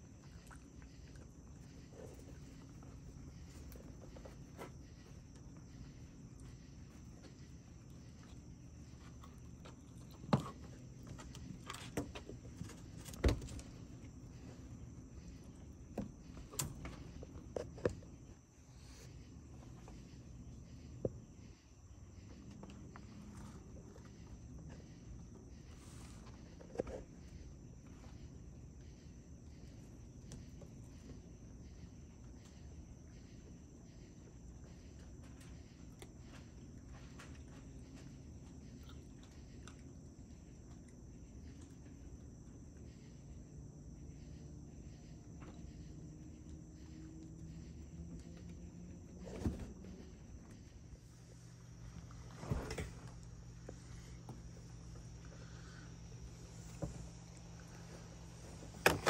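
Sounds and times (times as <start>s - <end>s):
night insect chorus: 0.0s - 59.0s.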